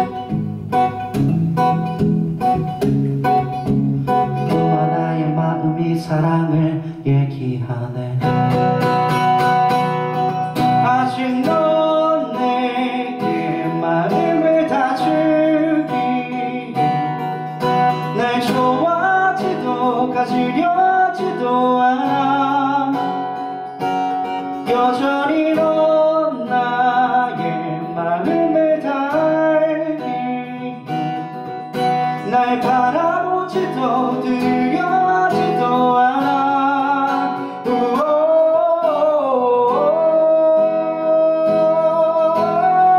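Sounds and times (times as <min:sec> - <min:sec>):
acoustic guitar strummed and picked: 0:00.0 - 0:42.9
man singing: 0:03.2 - 0:42.9.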